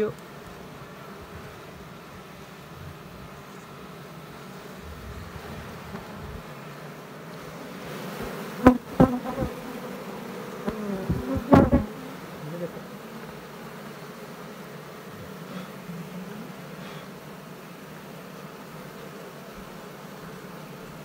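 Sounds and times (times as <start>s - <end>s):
bees humming: 0.0s - 21.0s
close bee buzzes: 0.0s - 21.0s.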